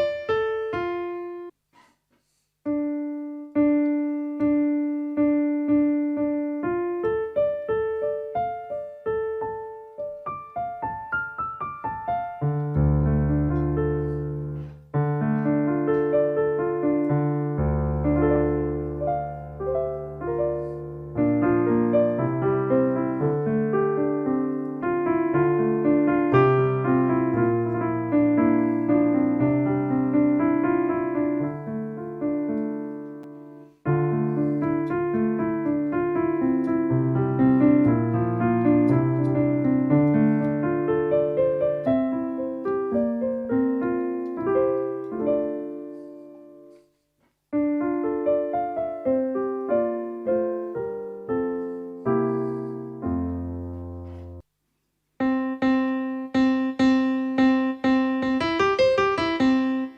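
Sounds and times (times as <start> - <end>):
digital keyboard piano: 0.0 - 1.6, 2.7 - 46.9, 47.5 - 54.5, 55.2 - 59.9.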